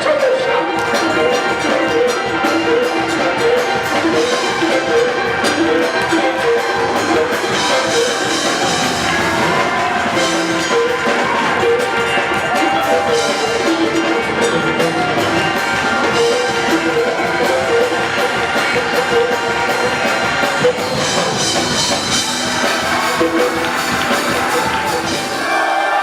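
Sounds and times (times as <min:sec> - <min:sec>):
drum kit with cymbals: 0:00.0 - 0:25.8
band playing held notes: 0:00.0 - 0:26.0.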